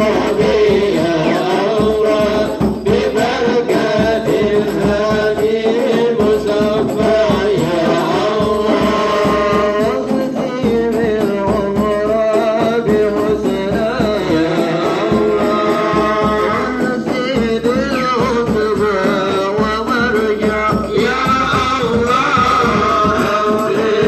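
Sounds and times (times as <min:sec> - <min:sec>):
frame drums beating: 0:00.0 - 0:24.0
man singing through loudspeaker: 0:00.0 - 0:24.0.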